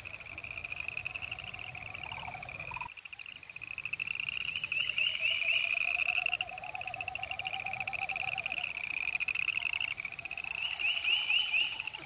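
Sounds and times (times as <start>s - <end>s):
frog lower pulsing call: 0.0s - 12.0s
frogs high rapid trill: 0.0s - 12.0s.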